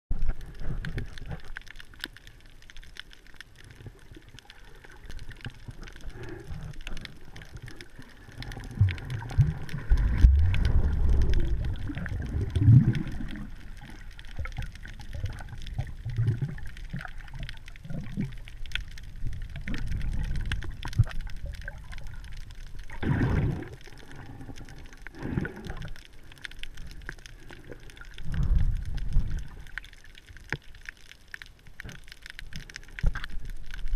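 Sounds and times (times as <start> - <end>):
faint crackling clicks: 0.1 - 33.9
muffled underwater water movement: 0.1 - 33.9.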